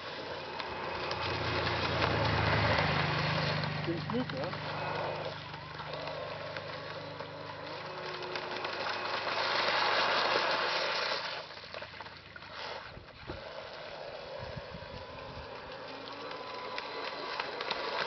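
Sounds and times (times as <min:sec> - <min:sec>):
model boat motor: 0:00.0 - 0:18.0
water rushing from hull: 0:00.0 - 0:18.0.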